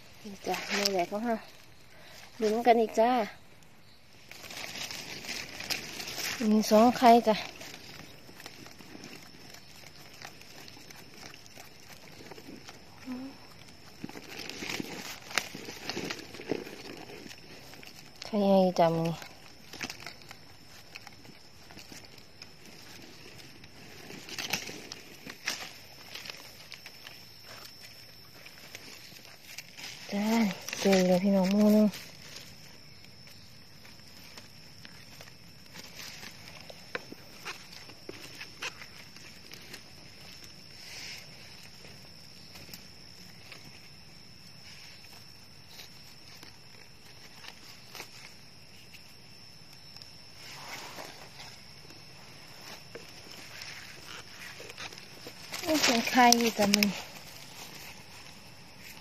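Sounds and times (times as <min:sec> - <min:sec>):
hands rustling dry leaves: 0:00.0 - 0:59.0.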